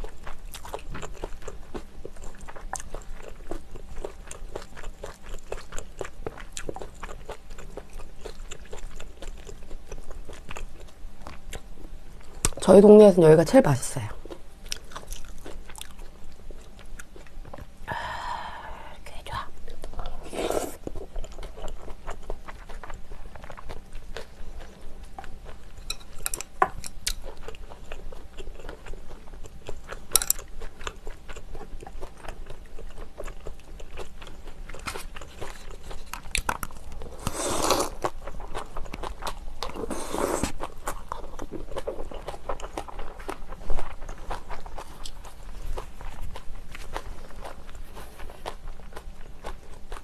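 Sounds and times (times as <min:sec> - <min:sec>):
close chewing and crunching: 0:00.0 - 0:50.0.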